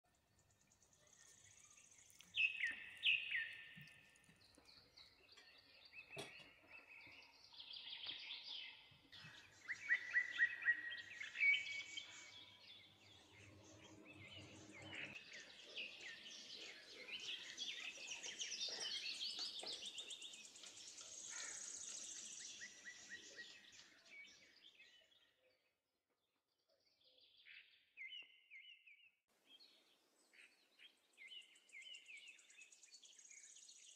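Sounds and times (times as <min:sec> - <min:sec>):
birds chirping and singing: 0:00.4 - 0:25.3, 0:30.3 - 0:33.9.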